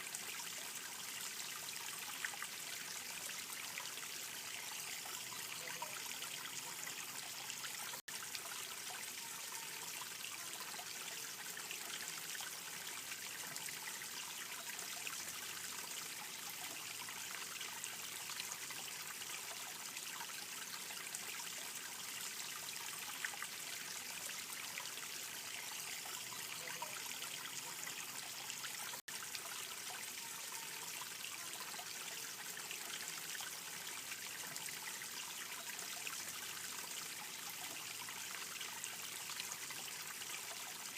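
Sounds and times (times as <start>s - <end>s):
babbling water trickling: 0.0s - 40.9s.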